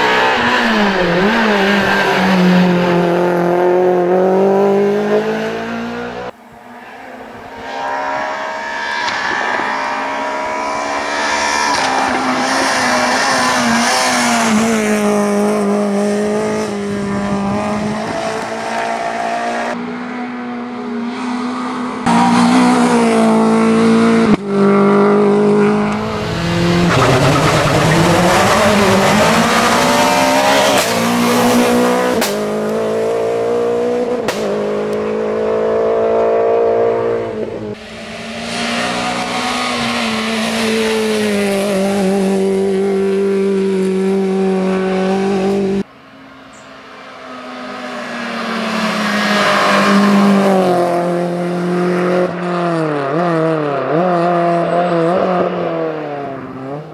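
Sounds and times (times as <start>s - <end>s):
rally car engine revving: 0.0s - 45.9s, 46.5s - 56.9s.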